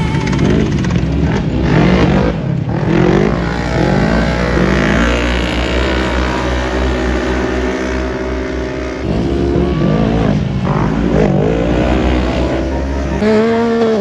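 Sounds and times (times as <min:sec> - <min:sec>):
racing engines revving: 0:00.0 - 0:14.0.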